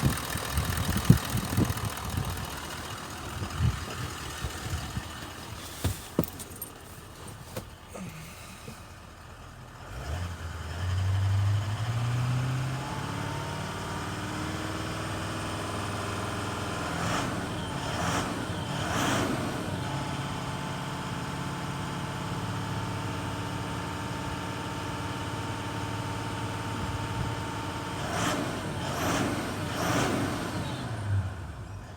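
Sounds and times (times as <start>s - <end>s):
diesel engine idling and revving: 0.0s - 31.9s.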